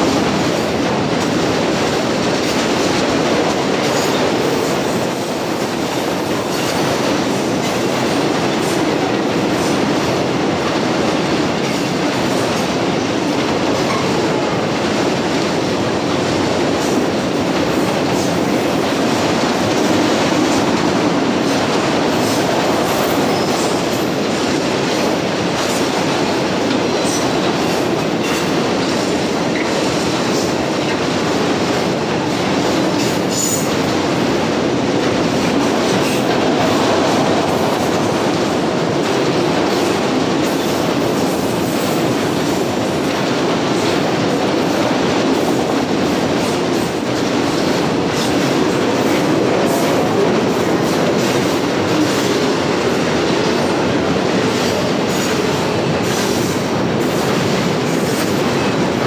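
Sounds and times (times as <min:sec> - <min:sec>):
steel train wheels rumbling on rail: 0:00.0 - 0:59.0.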